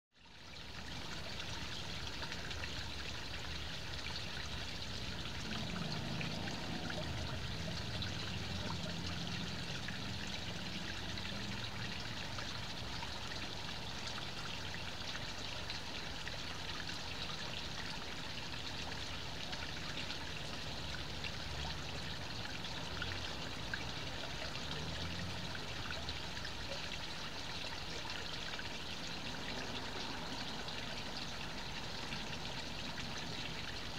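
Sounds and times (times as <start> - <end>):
water trickling over rocks: 0.2 - 33.9.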